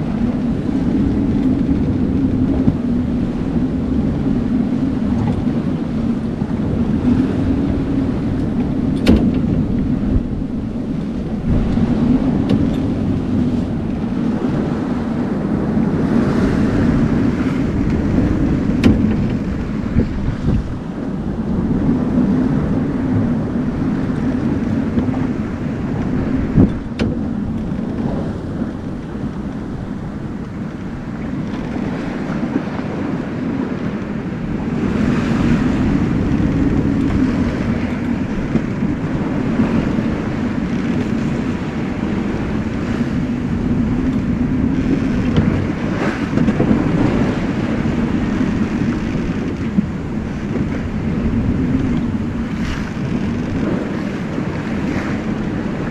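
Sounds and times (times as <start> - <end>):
water rushing along a hull: 0.0 - 55.9
wind buffeting microphone: 0.0 - 55.9.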